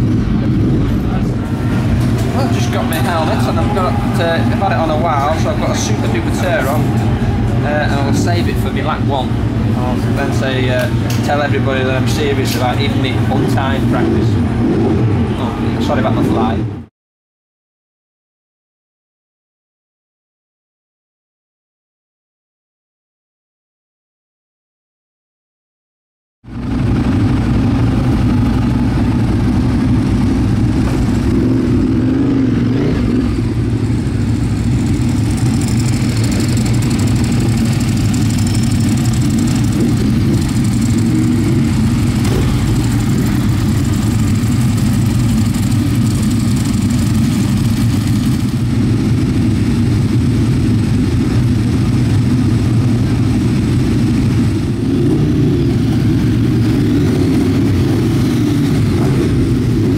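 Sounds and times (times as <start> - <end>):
motorcycle engine running: 0.0 - 16.5, 26.5 - 59.9.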